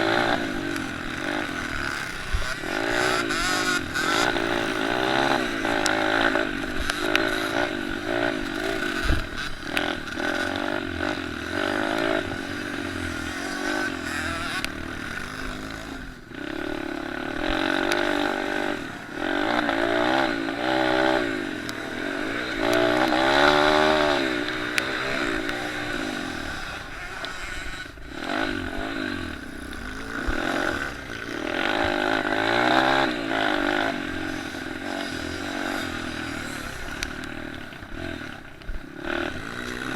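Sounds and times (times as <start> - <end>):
small motorcycle engines revving: 0.0 - 39.9.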